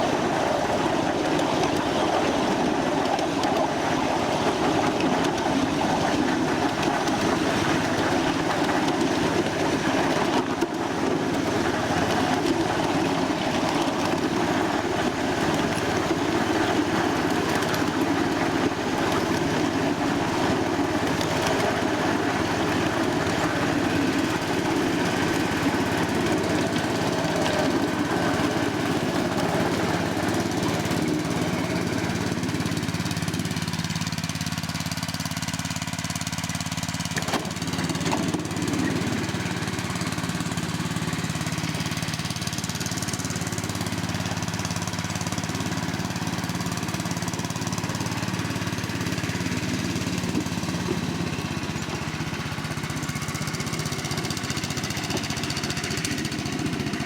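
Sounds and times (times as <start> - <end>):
small engine humming: 0.0 - 57.0.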